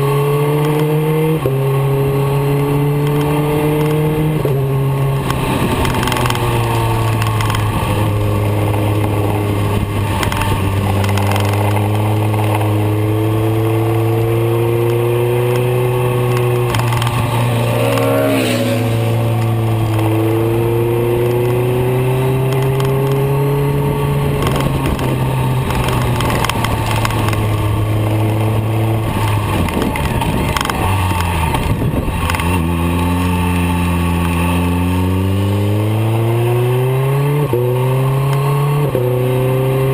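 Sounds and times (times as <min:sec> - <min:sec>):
wind noise: 0:00.0 - 0:34.4
motorcycle engine running: 0:00.0 - 0:39.9.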